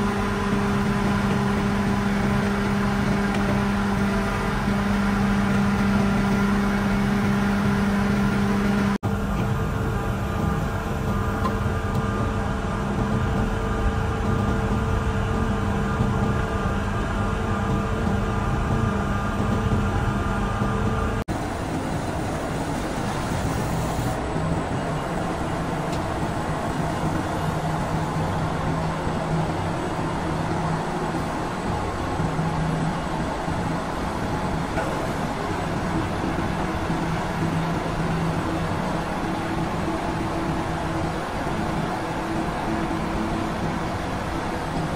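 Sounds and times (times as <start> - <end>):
diesel engine running: 0.0 - 44.9
rough noisy drone: 0.0 - 44.9
steady low hum: 0.0 - 44.9.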